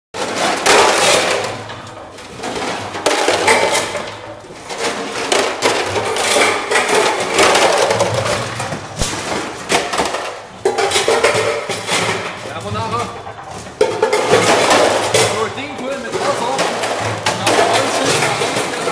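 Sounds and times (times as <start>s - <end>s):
cans dropping onto floor: 0.2s - 18.9s
metallic crunching of cans: 0.2s - 18.9s.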